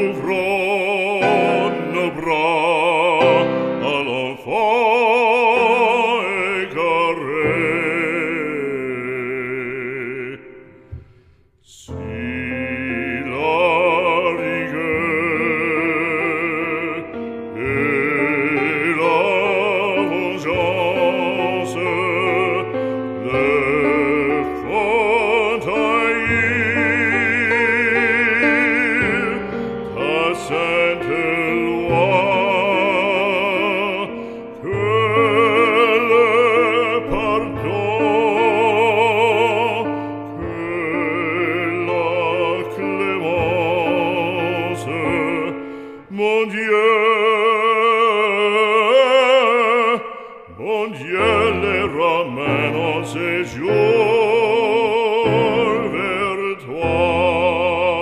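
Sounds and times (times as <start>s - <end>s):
operatic voice singing: 0.0s - 58.0s.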